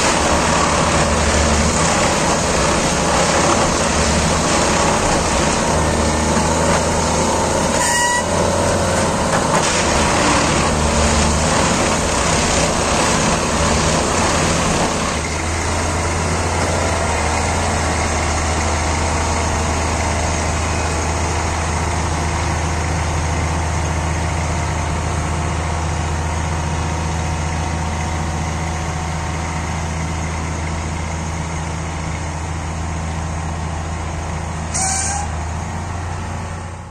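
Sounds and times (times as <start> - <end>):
diesel engine humming: 0.0 - 36.9
heavy machinery noise: 0.0 - 36.9.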